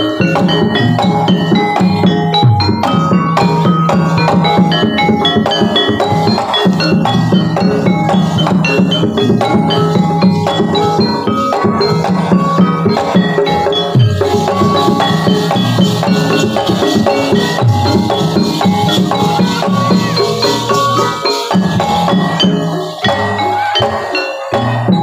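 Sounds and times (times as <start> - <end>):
drumming: 0.0 - 25.0
metal-keyed instruments ringing: 0.0 - 25.0.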